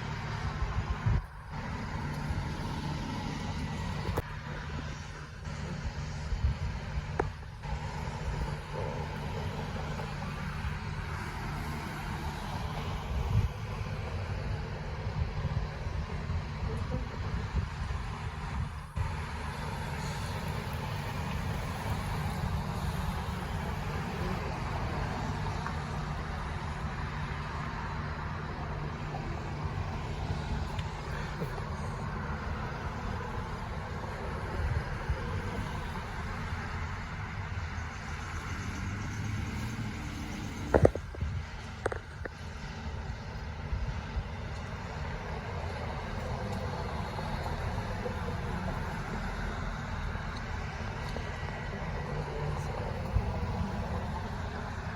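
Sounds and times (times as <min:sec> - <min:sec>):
heavy equipment engine running: 0:00.0 - 0:54.9.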